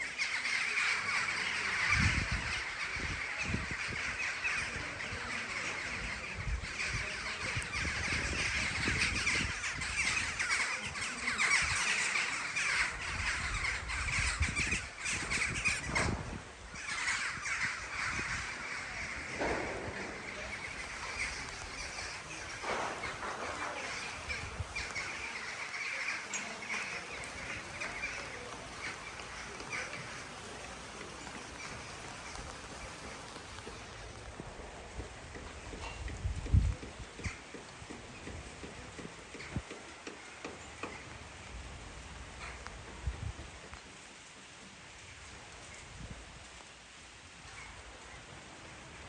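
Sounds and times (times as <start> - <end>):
flock of birds calling: 0.0 - 49.0.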